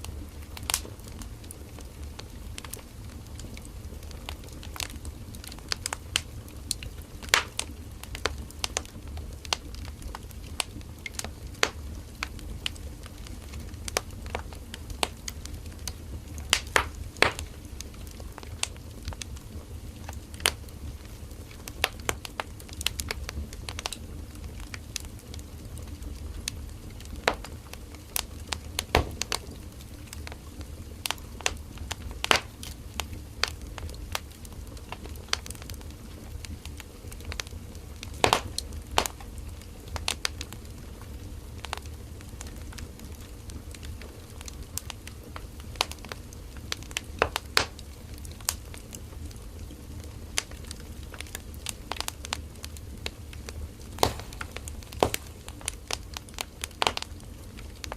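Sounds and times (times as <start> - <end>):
firewood crackling and popping: 0.0 - 57.9
flames rumbling: 0.0 - 57.9.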